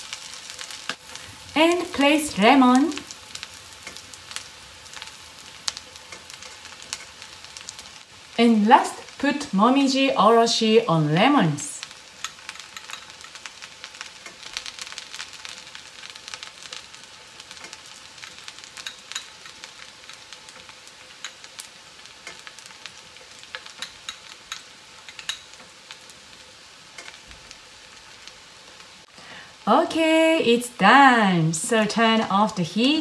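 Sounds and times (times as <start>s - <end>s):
noodles sizzling on griddle: 0.0s - 33.0s.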